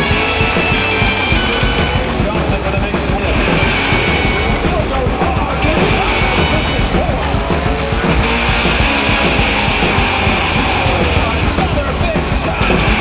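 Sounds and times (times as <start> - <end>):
car engines revving: 0.0 - 13.0
high squeal: 0.0 - 13.0.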